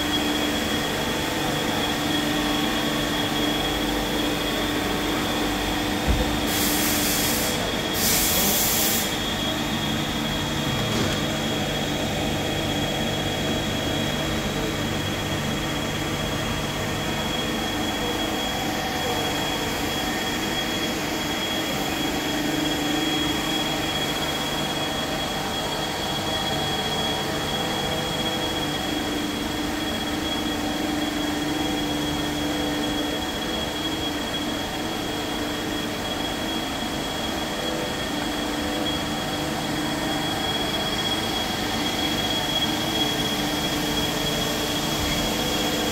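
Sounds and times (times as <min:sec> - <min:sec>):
high-pitched machine whine: 0:00.0 - 0:45.9
lathe machine hum: 0:00.0 - 0:45.9.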